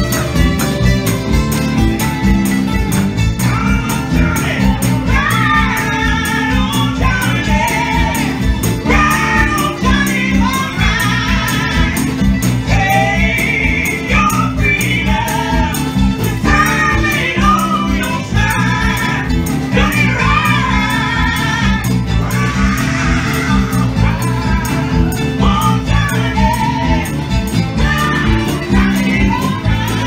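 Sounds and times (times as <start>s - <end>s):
live band playing: 0.0s - 30.0s
man singing: 3.3s - 30.0s
woman singing: 3.4s - 30.0s.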